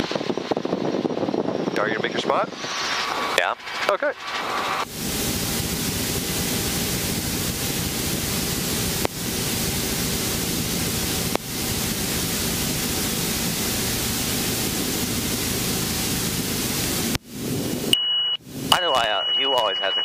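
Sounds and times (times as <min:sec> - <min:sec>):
helicopter rotor and wind rush: 0:00.0 - 0:19.0.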